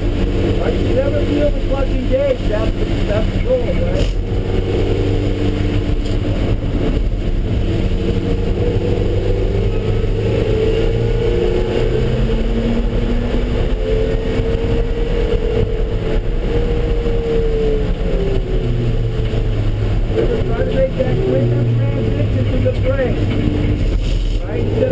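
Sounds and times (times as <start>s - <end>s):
car engine accelerating: 0.0s - 24.9s
road noise: 0.0s - 24.9s.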